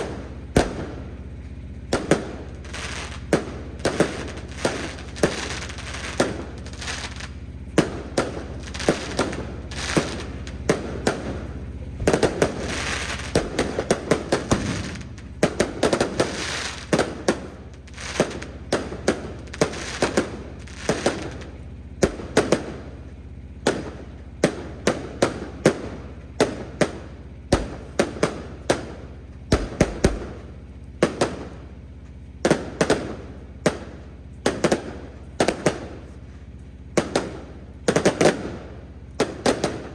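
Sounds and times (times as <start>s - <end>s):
fireworks bangs: 0.0s - 39.9s
fireworks crackling: 0.0s - 39.9s
steady low hum: 0.0s - 39.9s.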